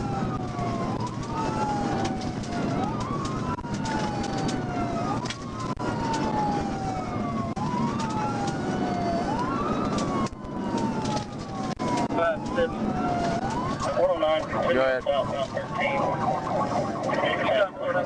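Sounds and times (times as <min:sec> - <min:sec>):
car road noise: 0:00.0 - 0:18.0
police siren wailing: 0:00.0 - 0:18.0.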